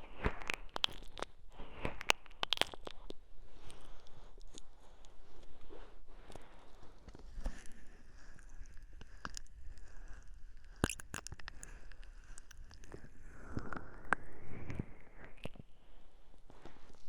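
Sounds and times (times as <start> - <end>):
soft crackles clicks and scratches: 0.0 - 17.0.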